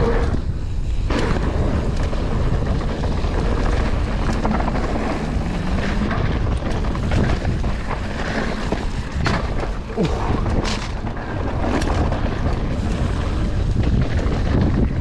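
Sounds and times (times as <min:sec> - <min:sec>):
tyres rumbling on dirt: 0:00.0 - 0:15.0
wind buffeting microphone: 0:00.0 - 0:15.0.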